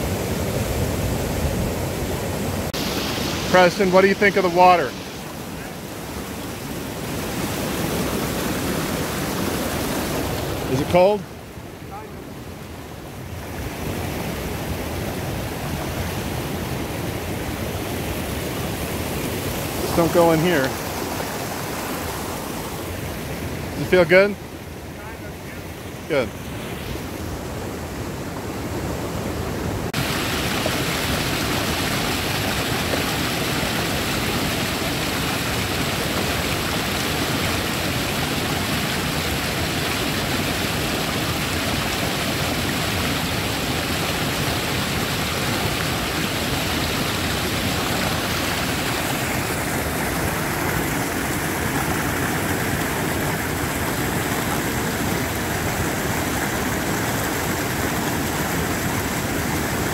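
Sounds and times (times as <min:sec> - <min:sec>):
water rushing over rapids: 0:00.0 - 0:59.9.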